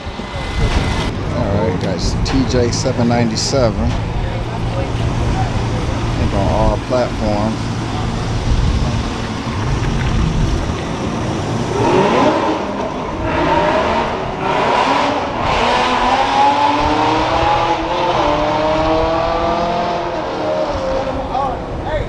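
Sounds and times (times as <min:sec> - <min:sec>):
exhaust and tyre rumble: 0:00.0 - 0:22.0
car engine accelerating hard: 0:03.5 - 0:21.8.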